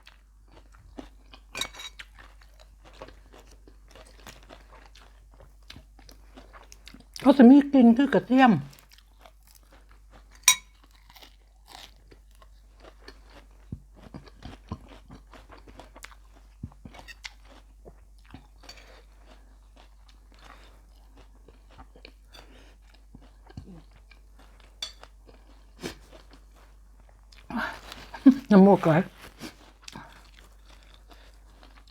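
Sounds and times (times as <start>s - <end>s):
chewing and crunching food: 0.0s - 31.9s.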